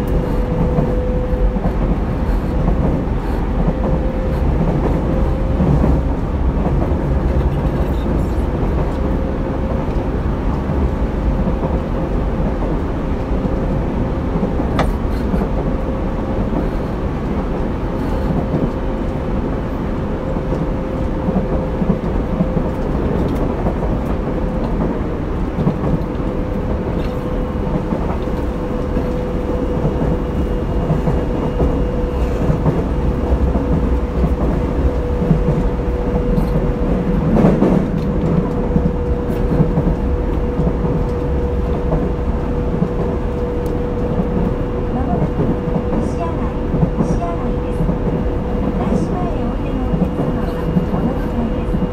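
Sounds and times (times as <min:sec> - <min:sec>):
electric train running: 0:00.0 - 0:51.9.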